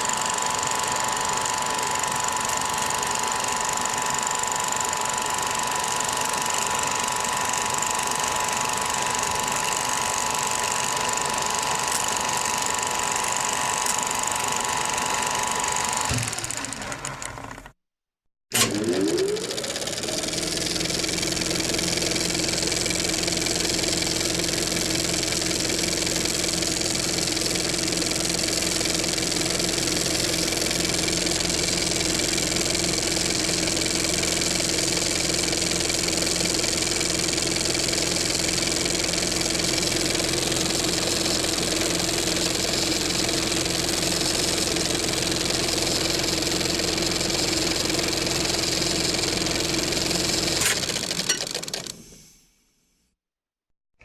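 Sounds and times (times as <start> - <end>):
film projector whirring: 0.0 - 17.8, 18.5 - 52.1.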